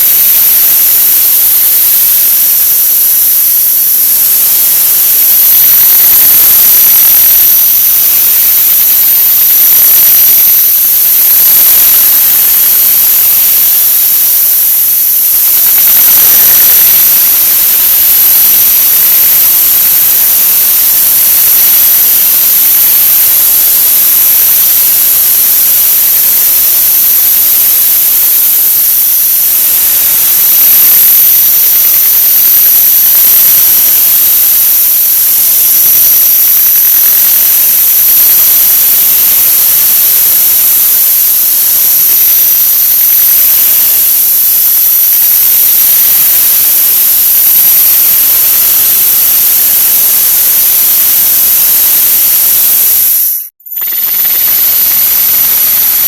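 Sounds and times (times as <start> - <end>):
loud hiss with high whine: 0.0 - 56.0.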